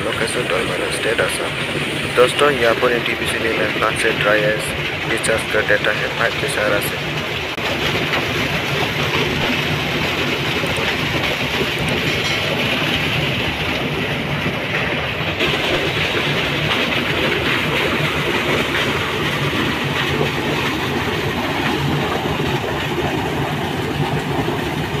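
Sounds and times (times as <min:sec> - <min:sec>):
vehicle rumble and rattle: 0:00.0 - 0:25.0.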